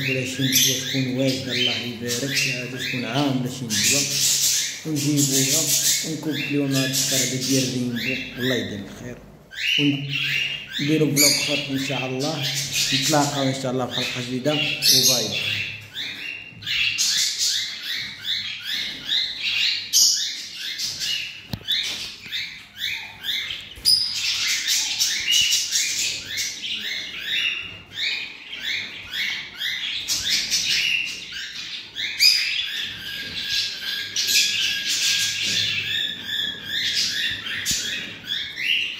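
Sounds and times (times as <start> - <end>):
birds chirping and chattering: 0.0 - 38.9.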